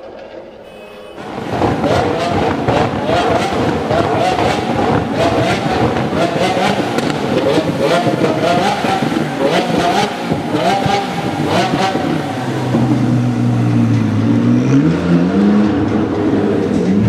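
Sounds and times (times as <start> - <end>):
sports car engine revving: 1.2 - 17.0.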